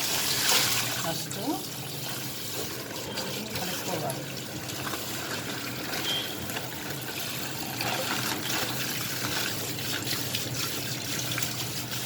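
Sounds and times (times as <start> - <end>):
tap water running into sink: 0.0 - 12.0
water splashing: 0.0 - 12.0.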